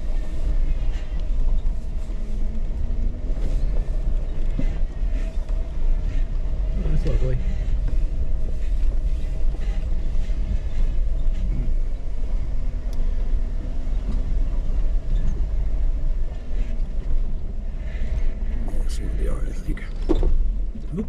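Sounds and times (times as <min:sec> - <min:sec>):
engine rumbling at low speed: 0:00.0 - 0:21.0.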